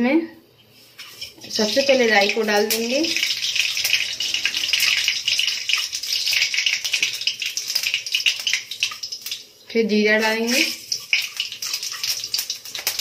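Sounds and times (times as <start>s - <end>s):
seeds sizzling in hot oil: 0.7s - 13.0s.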